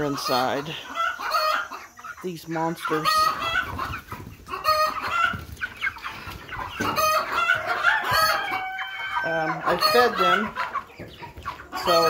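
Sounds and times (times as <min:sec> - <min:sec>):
chickens peeping and clucking: 0:00.0 - 0:12.0.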